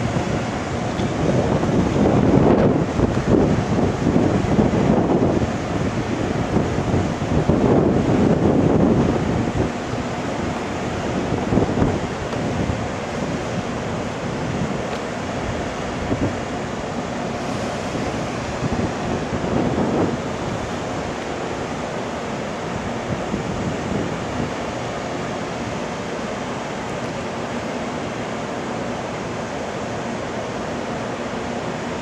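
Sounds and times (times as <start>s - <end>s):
electric train blowers humming: 0.0s - 32.0s.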